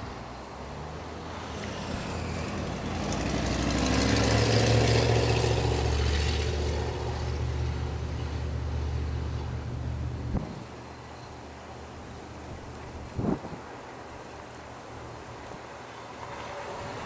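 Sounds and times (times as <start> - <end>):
hiss of tyres or wind: 0.0 - 17.0
vehicle engine hum: 0.0 - 17.0.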